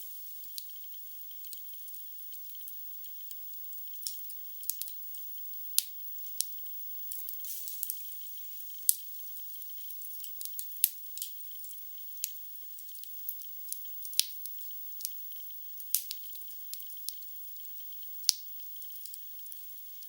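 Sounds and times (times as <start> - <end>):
faint fire hiss: 0.0 - 20.0.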